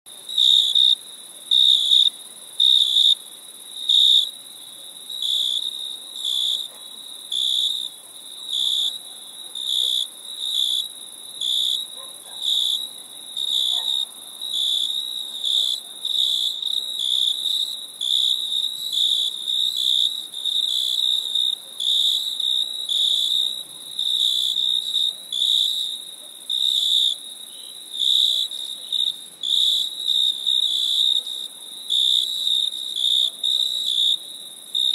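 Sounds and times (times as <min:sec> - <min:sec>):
crickets chirping: 0:00.1 - 0:34.9.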